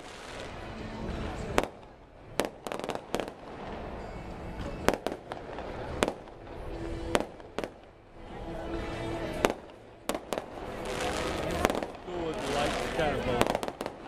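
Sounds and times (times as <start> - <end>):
fireworks bursting: 0.0 - 8.0, 9.2 - 14.0.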